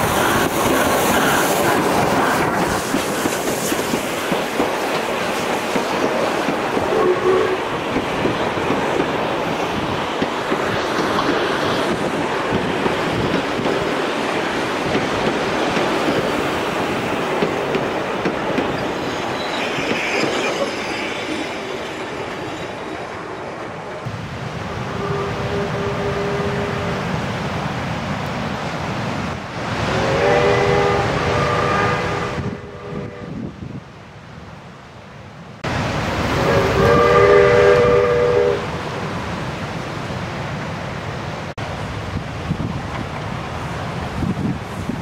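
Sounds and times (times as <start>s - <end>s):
steam locomotive passing: 0.0s - 34.7s, 35.6s - 45.0s.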